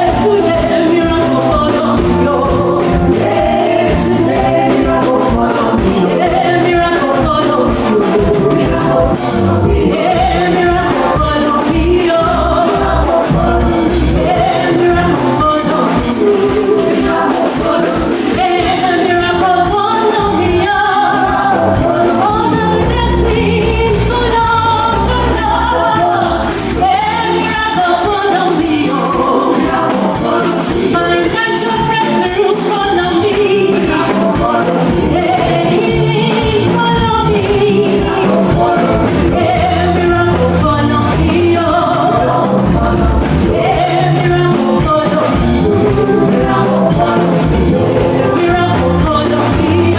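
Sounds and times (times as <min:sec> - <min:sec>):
gospel worship music: 0:00.0 - 0:49.9.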